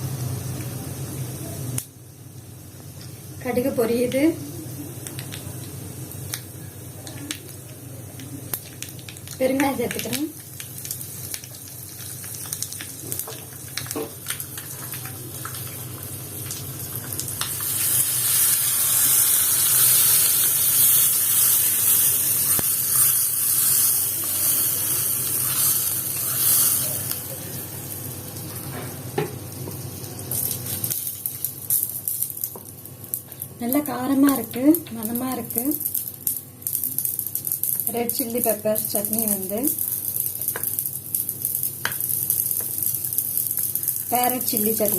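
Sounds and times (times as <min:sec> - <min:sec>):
hot oil sizzling: 0:00.0 - 0:44.9.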